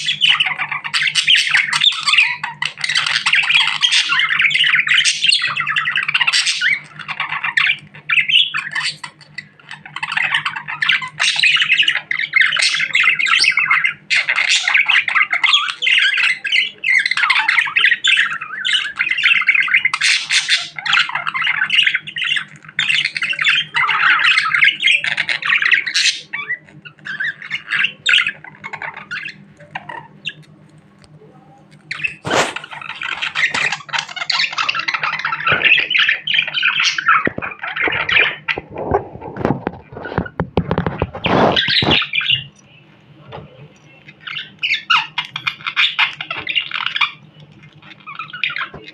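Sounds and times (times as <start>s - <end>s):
budgerigar chattering and chirping: 0.0s - 30.5s, 31.7s - 42.6s, 44.0s - 48.9s
low steady hum: 0.0s - 48.9s.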